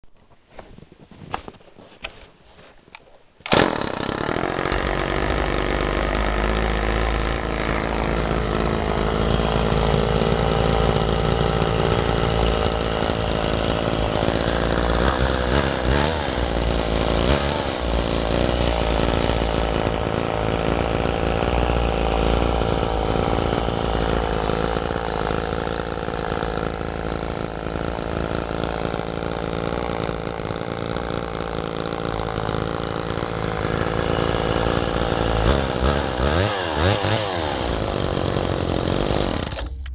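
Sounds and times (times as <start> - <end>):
chainsaw running: 3.4 - 39.9.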